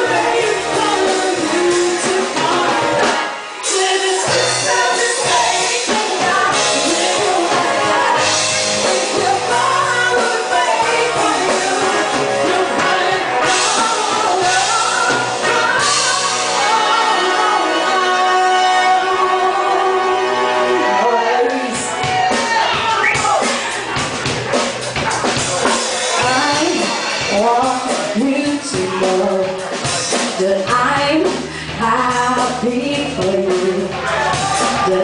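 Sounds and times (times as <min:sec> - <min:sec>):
lead singer singing: 0:00.0 - 0:23.7, 0:26.1 - 0:35.0
rock band playing: 0:00.0 - 0:35.0.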